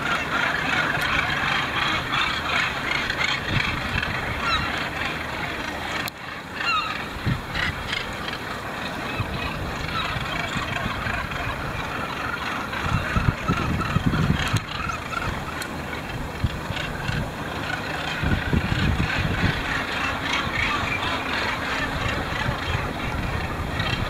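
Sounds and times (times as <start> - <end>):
gannets calling: 0.0 - 24.0
sea: 0.0 - 24.0
wind: 0.0 - 24.0.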